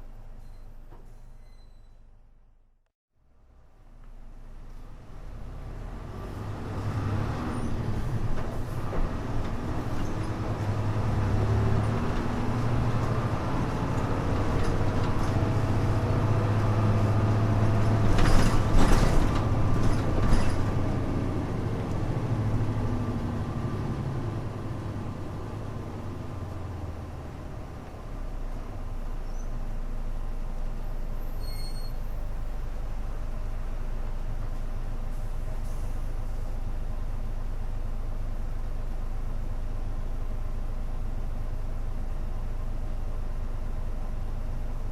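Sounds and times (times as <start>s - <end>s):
bus diesel engine humming: 0.0s - 44.9s.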